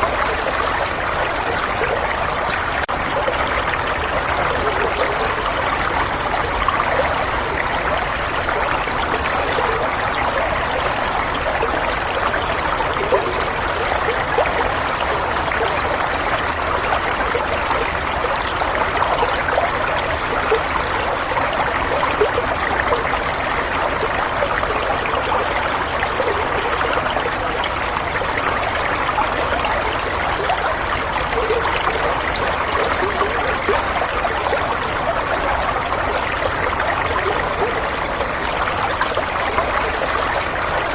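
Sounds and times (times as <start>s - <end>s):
stream trickling: 0.0s - 40.9s.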